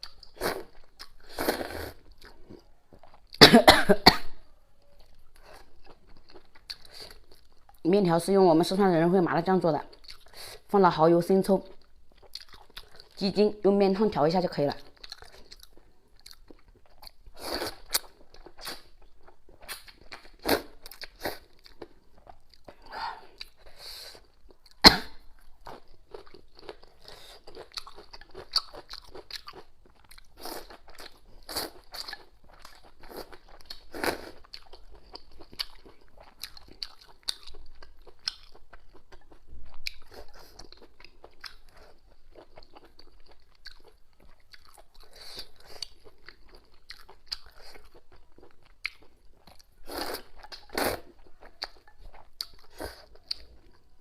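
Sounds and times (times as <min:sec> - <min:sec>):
person chewing: 0:00.0 - 0:03.4, 0:04.8 - 0:07.8, 0:09.9 - 0:10.7, 0:11.7 - 0:13.2, 0:14.8 - 0:54.0.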